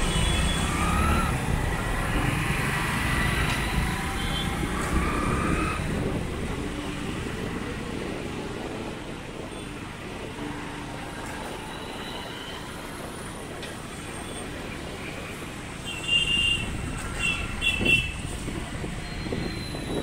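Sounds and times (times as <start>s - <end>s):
road and traffic noise: 0.0s - 20.0s.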